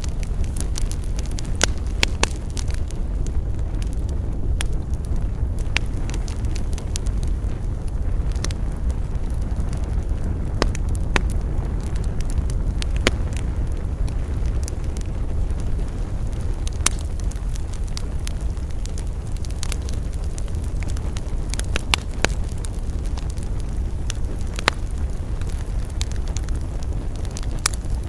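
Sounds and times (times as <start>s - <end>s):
campfire rumble: 0.0s - 28.0s
fire crackles and pops: 0.0s - 28.0s.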